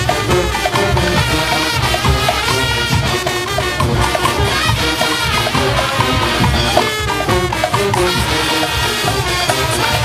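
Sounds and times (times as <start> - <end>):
brass horns playing melody: 0.0 - 10.0
pounding drums: 0.0 - 10.0.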